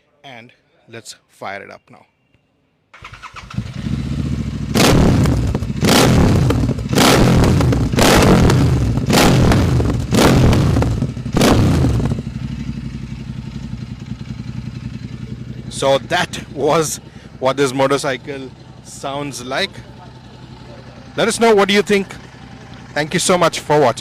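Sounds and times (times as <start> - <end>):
motorcycle engine starting and idling: 2.9 - 24.0
motorcycle engine revving: 3.0 - 24.0.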